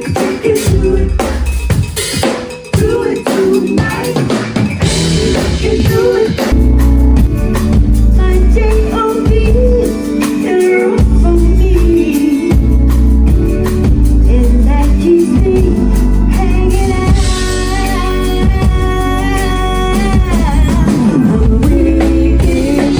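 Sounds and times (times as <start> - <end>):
person singing: 0.0 - 1.5, 2.7 - 6.6, 8.2 - 12.9, 14.2 - 22.9
live funk band playing: 0.0 - 22.9.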